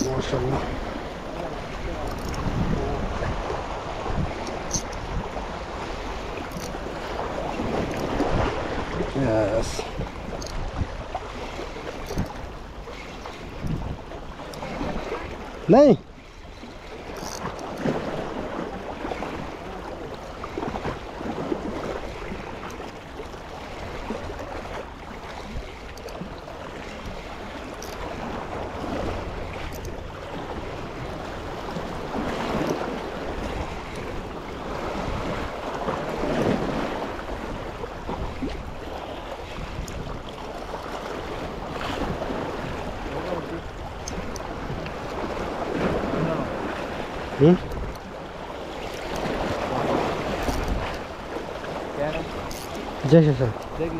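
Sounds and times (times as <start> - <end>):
wind on microphone: 0.0 - 15.6, 23.4 - 53.9
sea waves washing in: 0.0 - 53.9.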